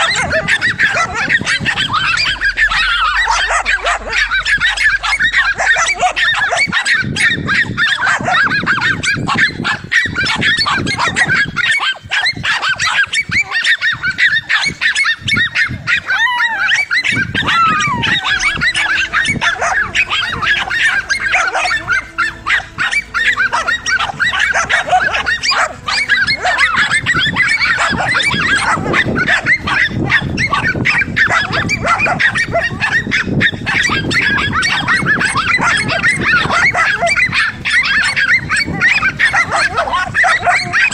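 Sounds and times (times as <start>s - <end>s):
dogs barking and yelping: 0.0s - 40.9s
dogs whining: 0.0s - 40.9s.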